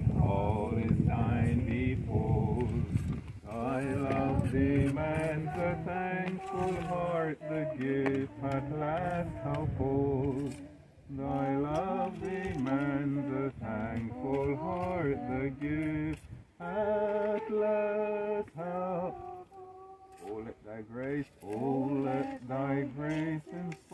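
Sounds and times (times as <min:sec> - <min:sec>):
man singing unaccompanied: 0:00.0 - 0:23.9.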